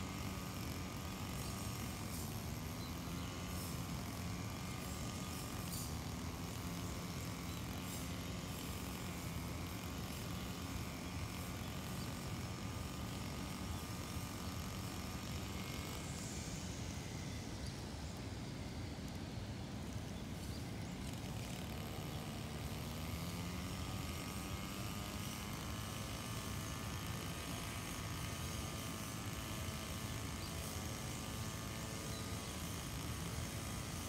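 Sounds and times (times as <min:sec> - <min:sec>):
brush cutter engine running: 0:00.0 - 0:34.0.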